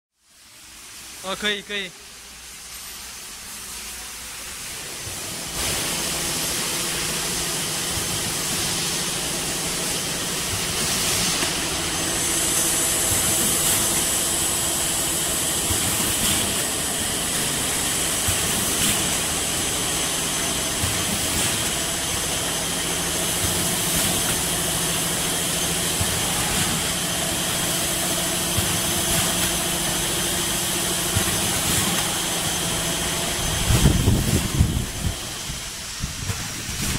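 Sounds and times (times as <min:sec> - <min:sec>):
packing machinery hum and hiss: 0:00.2 - 0:36.9.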